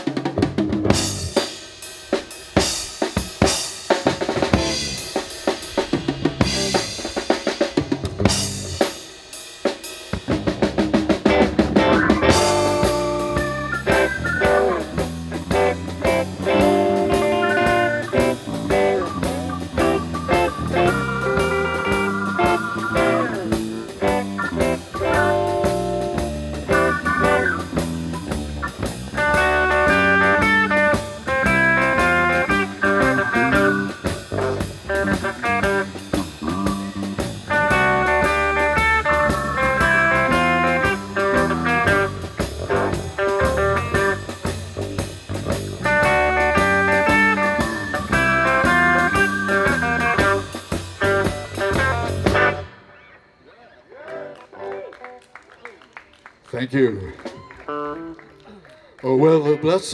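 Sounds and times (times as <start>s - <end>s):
drum kit playing: 0.0s - 52.8s
blues-rock band playing: 0.0s - 53.2s, 57.3s - 58.5s.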